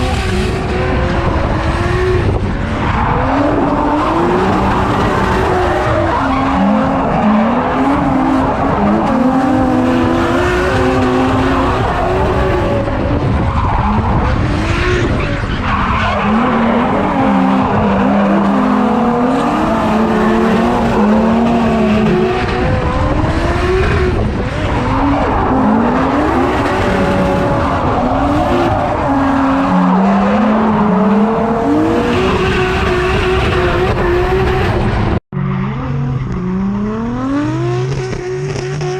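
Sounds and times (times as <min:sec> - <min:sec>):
car engine revving: 0:00.0 - 0:38.9
tyres skidding and squealing: 0:00.0 - 0:38.9.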